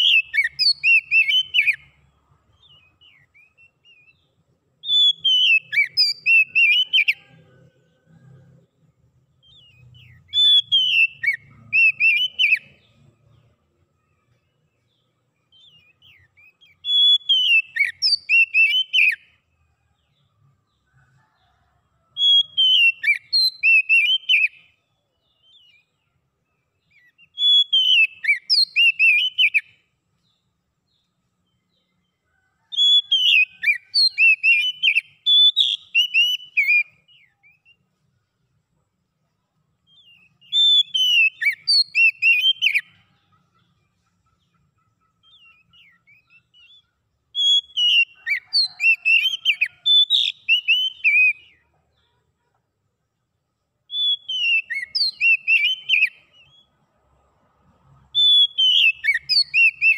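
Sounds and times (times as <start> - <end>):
bird singing whistled notes: 0.0 - 8.2, 8.8 - 20.3, 22.1 - 38.4, 39.8 - 51.6, 53.8 - 56.8, 58.1 - 59.9.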